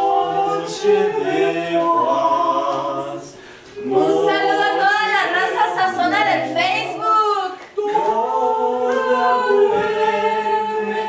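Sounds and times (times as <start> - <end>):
group singing without instruments: 0.0 - 11.0.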